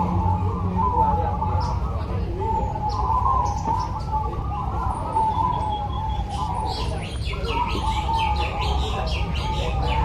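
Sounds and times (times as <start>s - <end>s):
doves cooing: 0.0s - 10.0s.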